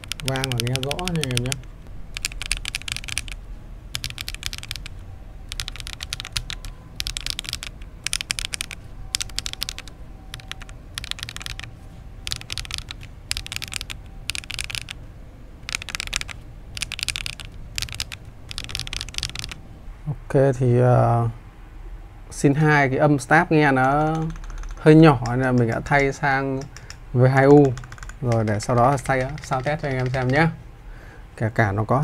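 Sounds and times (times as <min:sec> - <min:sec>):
mechanical keyboard typing: 0:00.0 - 0:15.0, 0:15.6 - 0:19.6, 0:23.8 - 0:30.6.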